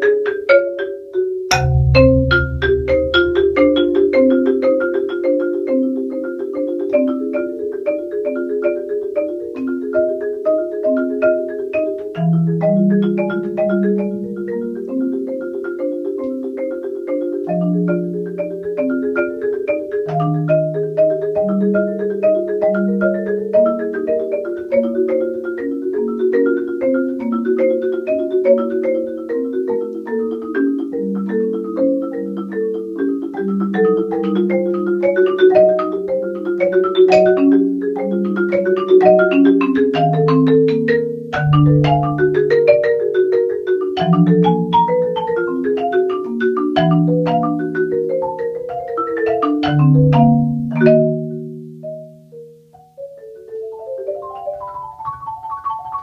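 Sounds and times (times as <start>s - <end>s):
marimba played with mallets: 0.0s - 56.0s.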